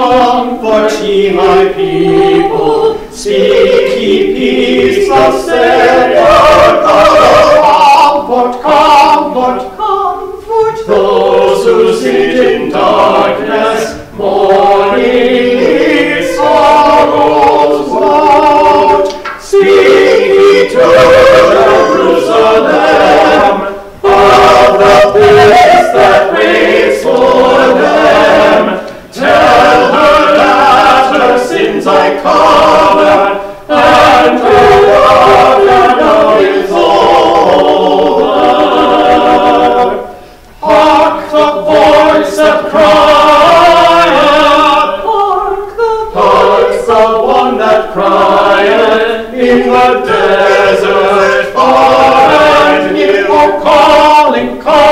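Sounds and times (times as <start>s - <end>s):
church choir singing: 0.0s - 54.9s.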